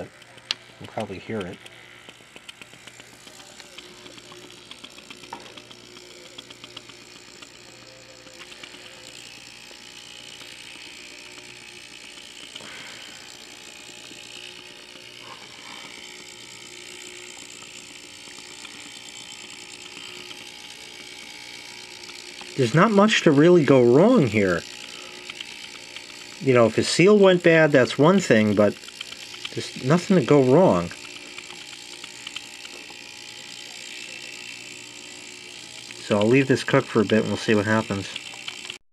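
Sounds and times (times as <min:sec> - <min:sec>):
electric pump buzzing and rattling: 0:00.0 - 0:38.8
fog machine puffs: 0:00.0 - 0:38.8.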